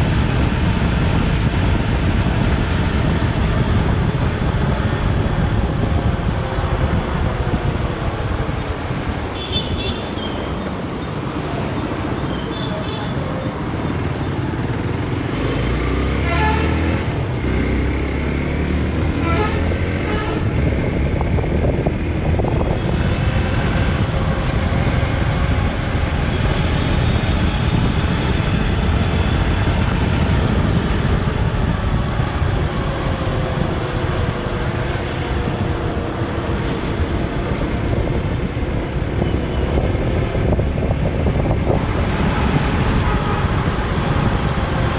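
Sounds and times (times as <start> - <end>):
road and wind noise: 0.0 - 44.9.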